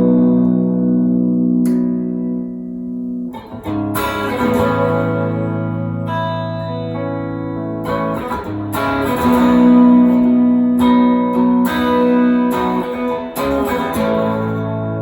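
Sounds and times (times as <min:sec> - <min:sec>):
electric guitar chords and notes: 0:00.0 - 0:15.0.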